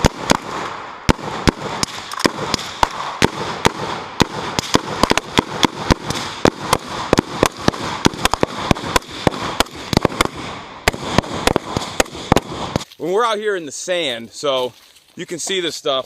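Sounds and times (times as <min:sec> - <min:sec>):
rifle gunfire: 0:00.0 - 0:12.9.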